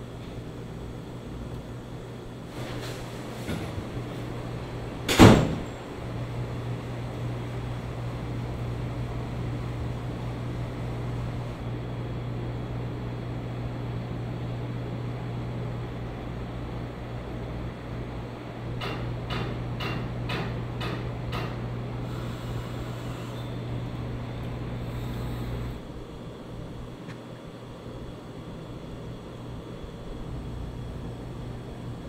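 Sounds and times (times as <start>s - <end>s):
low machine hum: 0.0s - 32.0s.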